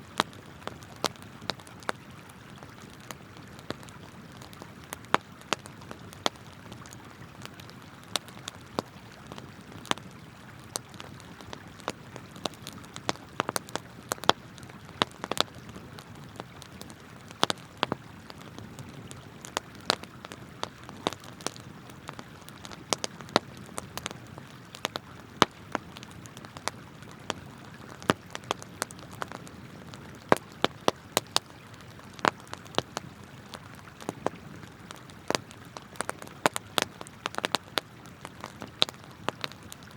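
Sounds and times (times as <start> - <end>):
campfire crackling and snapping: 0.0 - 39.9.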